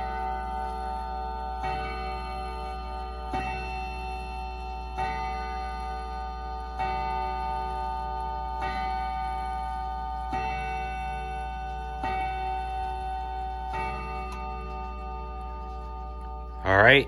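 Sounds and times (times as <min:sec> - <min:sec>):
mantel clock striking: 0:00.0 - 0:17.0.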